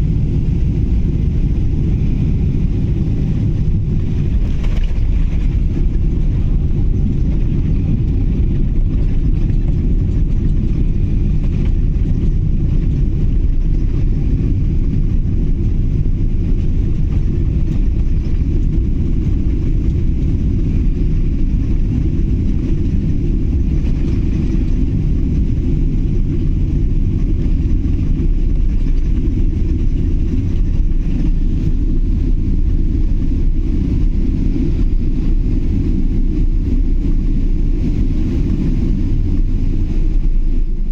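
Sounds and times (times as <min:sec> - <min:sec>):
jet engine rumble in cabin: 0:00.0 - 0:40.9.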